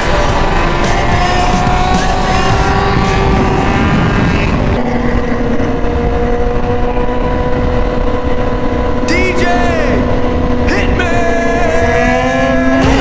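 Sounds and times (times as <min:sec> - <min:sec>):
motorcycle engine running: 0:00.0 - 0:13.0
rushing noise: 0:00.0 - 0:13.0.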